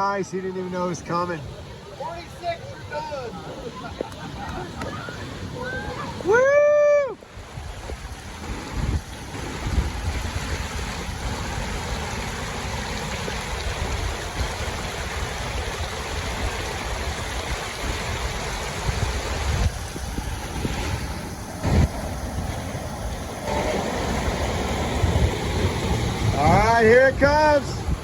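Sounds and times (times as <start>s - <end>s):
whitewater rapids roaring: 0.0s - 28.0s
wind rumbling on microphone: 2.8s - 28.0s.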